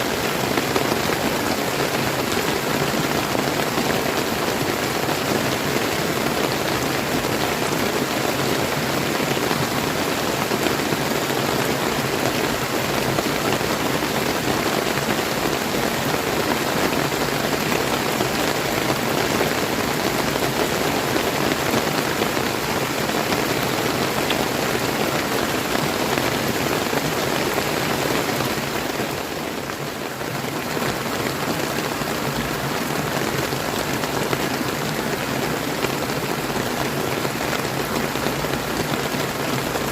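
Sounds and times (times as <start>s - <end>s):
rain falling: 0.0s - 39.9s
river flowing: 0.0s - 39.9s.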